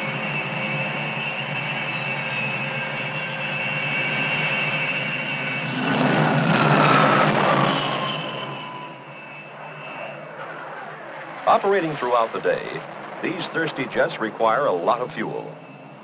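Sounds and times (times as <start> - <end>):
jet engines whining: 0.0 - 16.0
jet passing close: 0.0 - 16.0.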